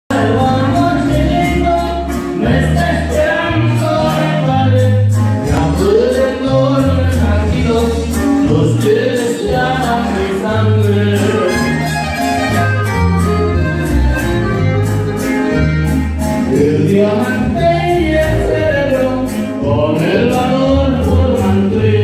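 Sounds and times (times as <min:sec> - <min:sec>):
band playing live: 0:00.1 - 0:22.0.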